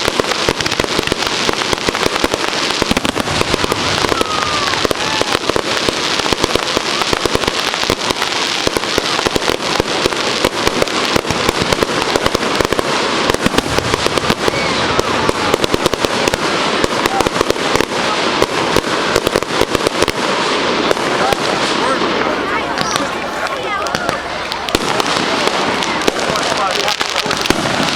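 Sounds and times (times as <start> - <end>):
fireworks crackling and banging: 0.0 - 27.9.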